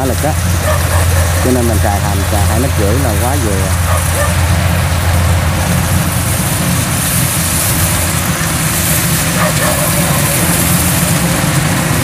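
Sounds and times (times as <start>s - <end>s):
diesel engine running under load: 0.0s - 12.0s
machinery hiss: 0.0s - 12.0s.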